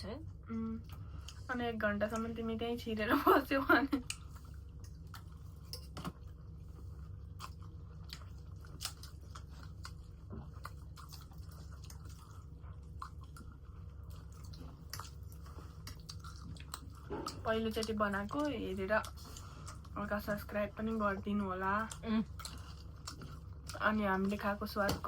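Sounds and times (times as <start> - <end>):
noodles being chewed: 4.0 - 25.0.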